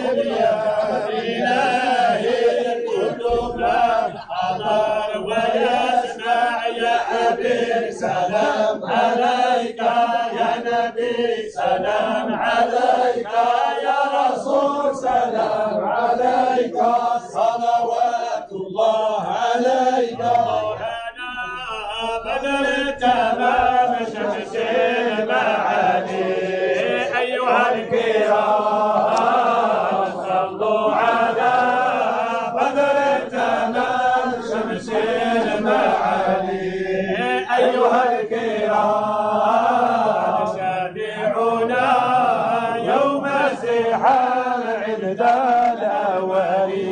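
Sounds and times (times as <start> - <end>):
men chanting together: 0.0 - 46.9.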